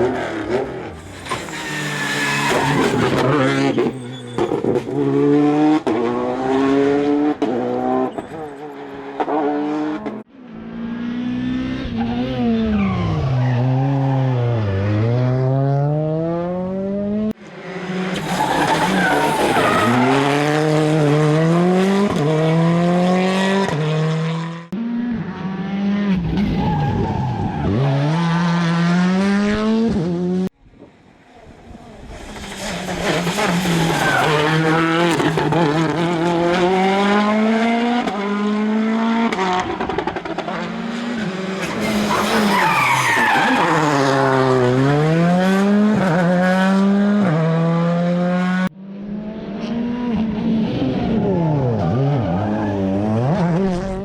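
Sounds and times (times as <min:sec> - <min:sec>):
rally car engines revving past: 0:00.0 - 0:30.5, 0:31.7 - 0:54.0.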